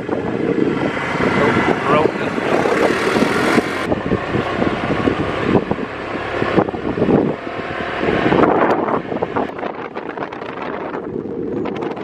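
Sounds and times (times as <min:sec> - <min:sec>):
moving vehicle noise: 0:00.0 - 0:12.0
wind buffeting microphone: 0:00.0 - 0:12.0.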